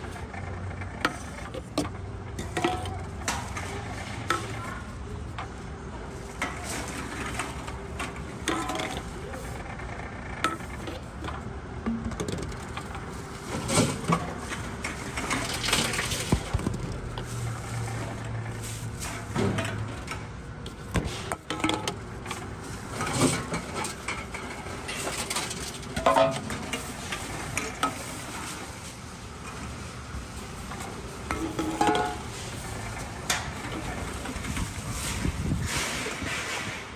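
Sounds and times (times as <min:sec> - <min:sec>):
low machine hum: 0:00.0 - 0:36.9
cans and bottles clattering: 0:00.8 - 0:05.6, 0:06.2 - 0:09.6, 0:10.4 - 0:17.4, 0:18.0 - 0:28.9, 0:30.6 - 0:36.9.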